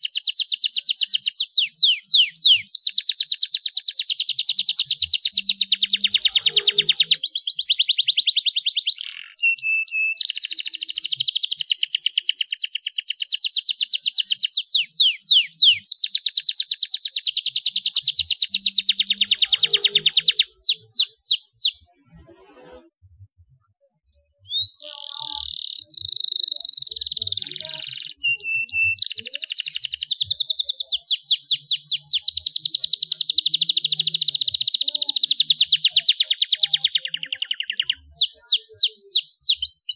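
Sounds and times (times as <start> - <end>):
canary singing trills: 0.0 - 22.3, 23.9 - 39.9.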